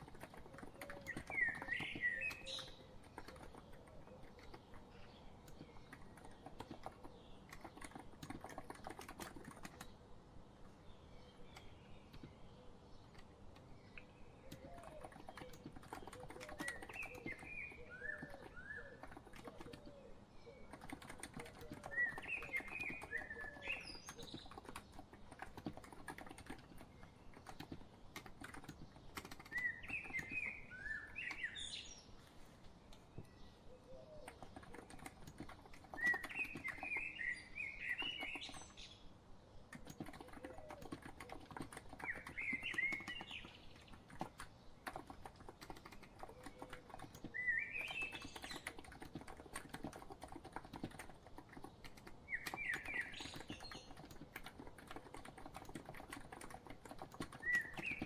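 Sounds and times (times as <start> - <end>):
soft keyboard typing: 0.0 - 39.0, 39.6 - 58.0
birds chirping and warbling: 0.0 - 58.0.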